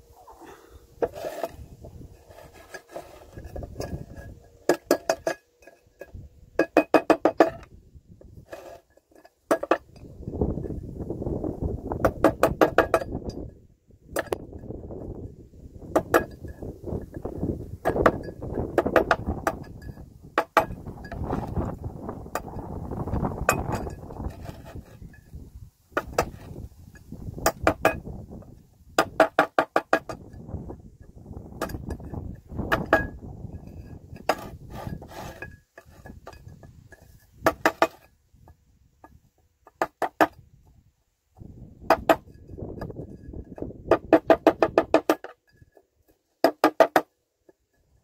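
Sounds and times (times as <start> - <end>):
scraping rusted metal: 0.2 - 13.5, 14.1 - 40.6, 41.5 - 46.9.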